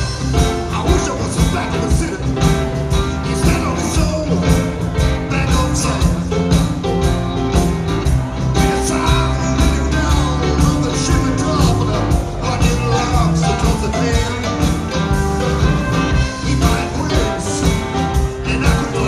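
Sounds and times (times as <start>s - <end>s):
man singing lead vocal: 0.0s - 6.7s, 8.5s - 19.0s
live rock band playing: 0.0s - 19.0s.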